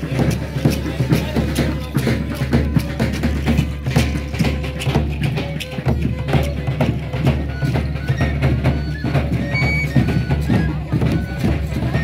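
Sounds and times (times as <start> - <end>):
steady drum beat: 0.0 - 12.0
violin melody: 0.1 - 12.0.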